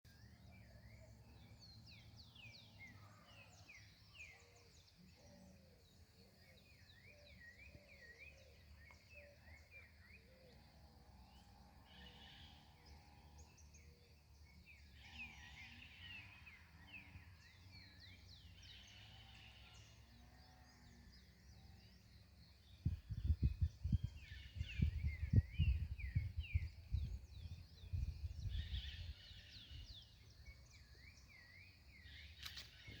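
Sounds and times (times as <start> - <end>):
birds singing and chirping: 0.1 - 33.0.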